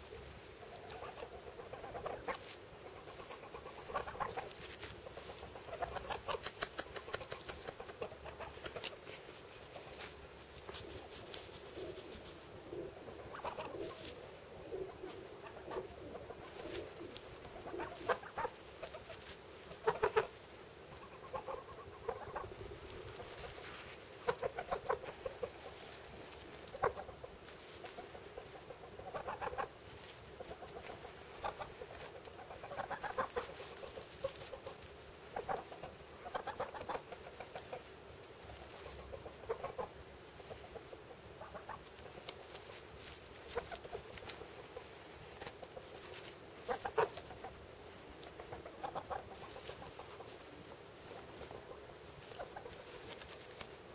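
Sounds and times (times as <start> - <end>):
geese giving soft calls: 0.0 - 53.9
straw rustling: 0.0 - 53.9.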